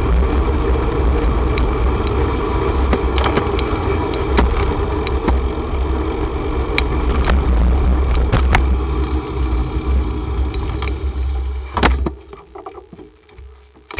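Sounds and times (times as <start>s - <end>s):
bicycle road noise: 0.0s - 13.9s
sharp clicks and rattles: 0.0s - 13.9s
wind rumbling on microphone: 0.0s - 13.9s.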